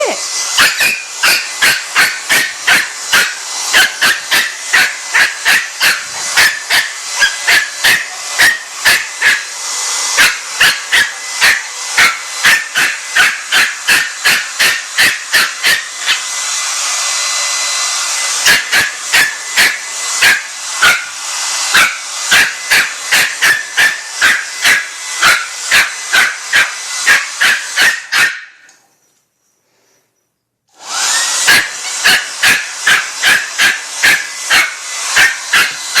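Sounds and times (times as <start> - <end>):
puppy barking: 0.0 - 16.4, 18.4 - 28.7, 31.2 - 36.0
hair dryer whirring: 0.0 - 28.8, 30.7 - 36.0.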